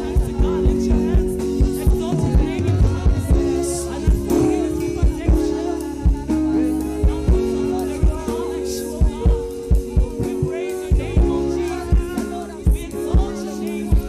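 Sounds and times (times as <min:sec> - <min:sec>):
kick drum beat: 0:00.0 - 0:08.4, 0:09.0 - 0:14.0
held keyboard chords: 0:00.0 - 0:14.0
voices singing along: 0:00.0 - 0:14.0.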